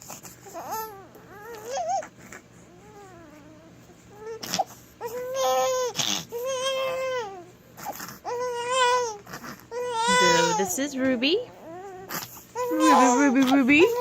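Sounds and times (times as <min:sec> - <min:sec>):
baby crying: 0:00.5 - 0:03.6, 0:04.2 - 0:10.9, 0:11.6 - 0:14.0.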